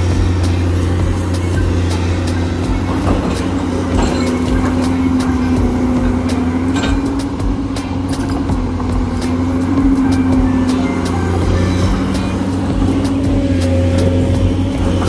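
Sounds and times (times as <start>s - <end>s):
diesel engine running: 0.0s - 15.0s
track links clicking and clanking: 0.0s - 15.0s.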